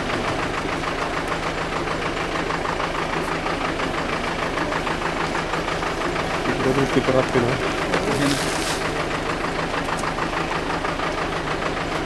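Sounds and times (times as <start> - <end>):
heavy machine engine idling: 0.0 - 12.0.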